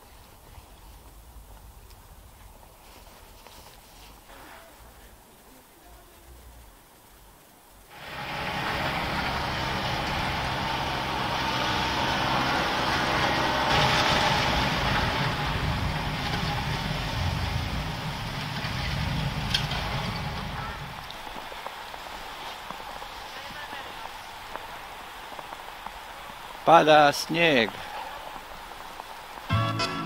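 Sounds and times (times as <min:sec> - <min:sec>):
street hiss: 0:00.0 - 0:30.0
vehicle engine humming: 0:04.3 - 0:30.0.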